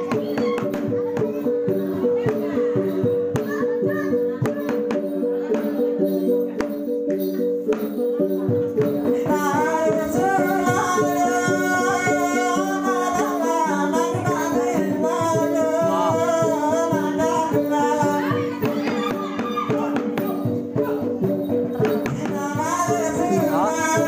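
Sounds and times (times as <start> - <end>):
person singing: 0.0 - 24.0.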